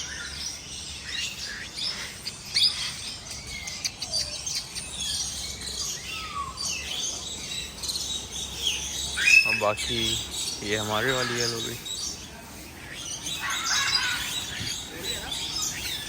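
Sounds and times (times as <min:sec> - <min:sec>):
parrots chirping and squeaking: 0:00.0 - 0:16.0.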